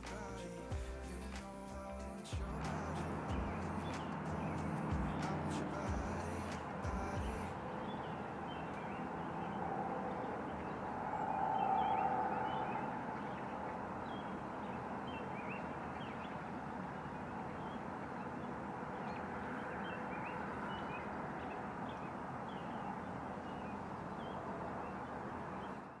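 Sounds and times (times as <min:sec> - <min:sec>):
steady hum: 0:00.0 - 0:25.4.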